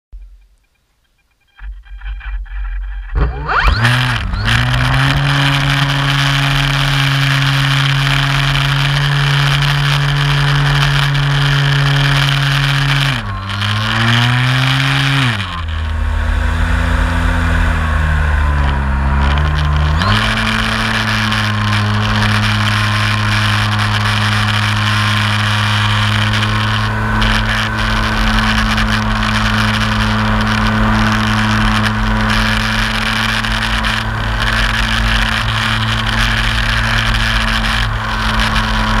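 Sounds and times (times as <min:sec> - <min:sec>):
electric motor and propeller buzzing: 0:01.6 - 0:39.0.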